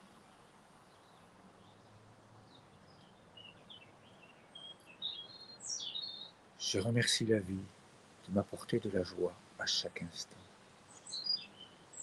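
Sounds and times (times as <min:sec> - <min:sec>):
faint bird chirps: 0:00.0 - 0:07.7, 0:08.3 - 0:12.0.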